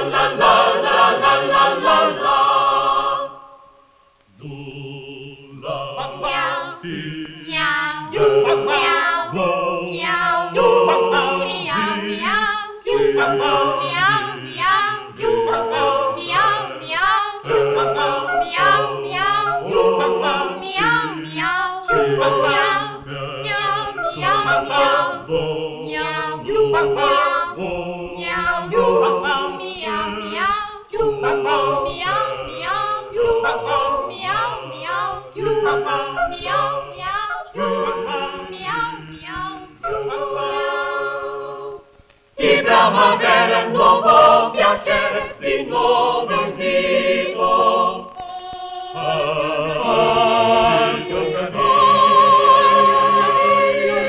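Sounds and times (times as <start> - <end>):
vocal ensemble singing: 0.0 - 54.0.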